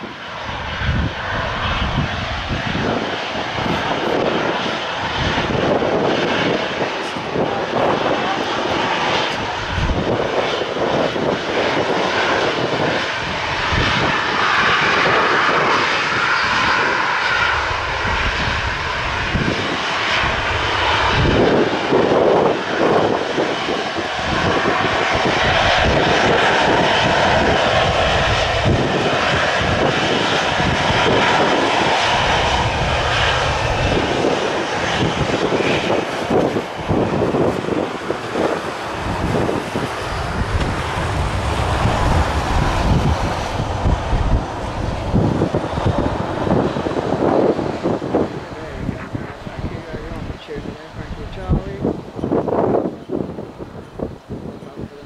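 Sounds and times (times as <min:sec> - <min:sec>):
jet engines at low power: 0:00.0 - 0:55.0
wind buffeting microphone: 0:00.0 - 0:55.0.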